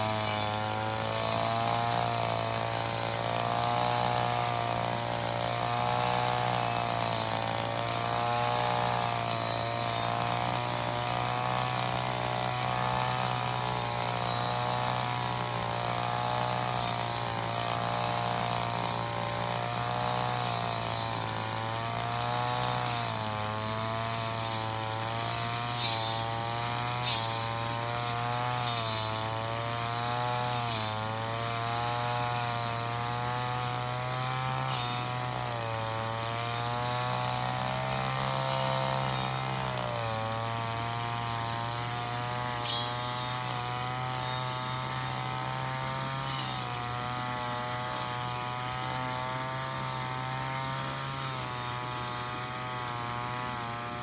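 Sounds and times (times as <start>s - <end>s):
brush cutter engine: 0.0s - 54.0s.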